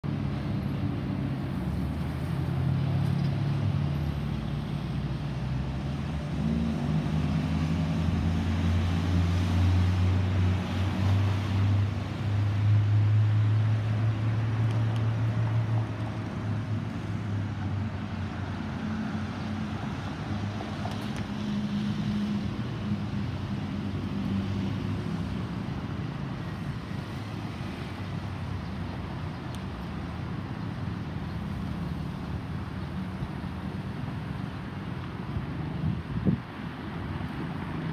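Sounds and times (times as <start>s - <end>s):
jet engines rumbling overhead: 0.0s - 37.9s.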